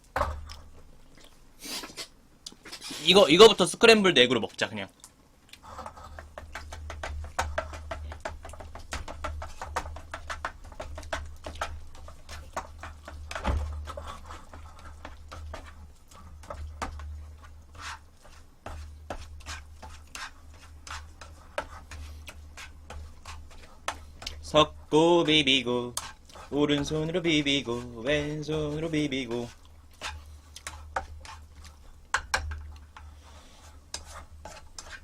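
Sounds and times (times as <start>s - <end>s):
utensil scraping a bowl: 5.7s - 35.0s.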